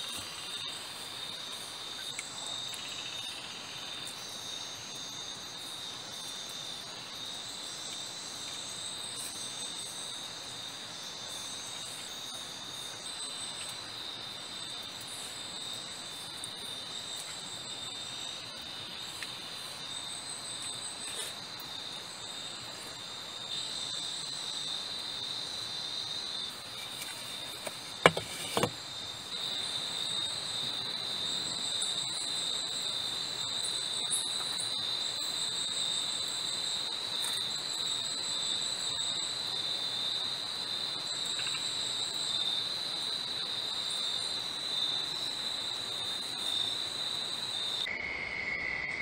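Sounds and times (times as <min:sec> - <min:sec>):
insect high-pitched trill: 0:00.0 - 0:49.0
other insects calling: 0:00.0 - 0:49.0.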